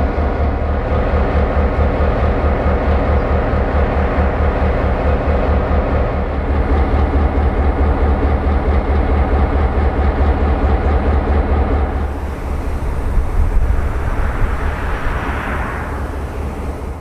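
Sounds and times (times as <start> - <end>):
diesel locomotive engine running: 0.0 - 17.0.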